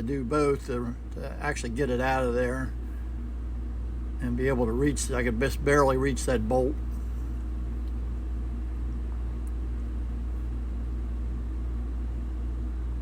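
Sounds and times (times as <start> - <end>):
faint low hum: 0.0 - 13.0
steady low rumble: 0.0 - 13.0.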